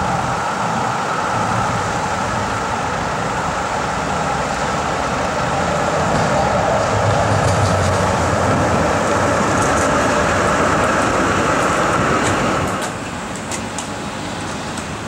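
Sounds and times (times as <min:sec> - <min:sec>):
tram rolling on wet rails: 0:00.0 - 0:15.0
wheels clicking on track: 0:00.0 - 0:15.0.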